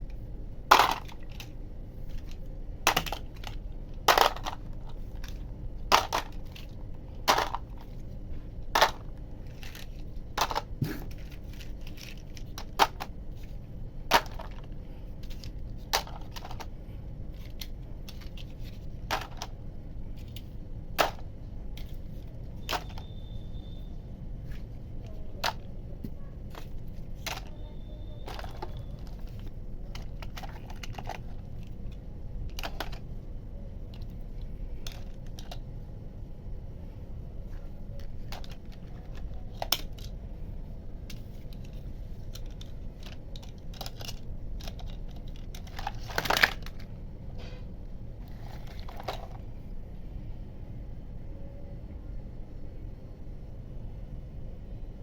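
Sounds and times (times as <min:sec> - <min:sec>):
steady low hum: 0:00.0 - 0:55.0
toy cars knocking and clacking: 0:00.1 - 0:23.8, 0:24.4 - 0:35.7, 0:37.5 - 0:40.2, 0:41.0 - 0:47.6, 0:48.2 - 0:49.6.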